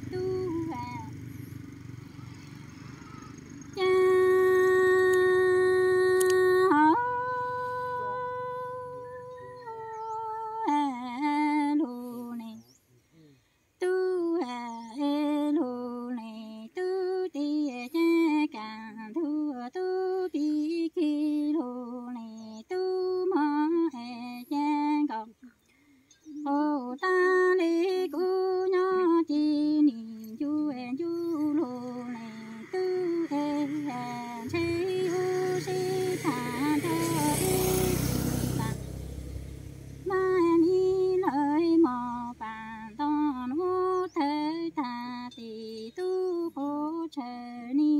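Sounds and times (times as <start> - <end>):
woman chanting: 0.0 - 1.3, 2.2 - 12.7, 13.8 - 25.4, 26.3 - 39.2, 40.0 - 47.9.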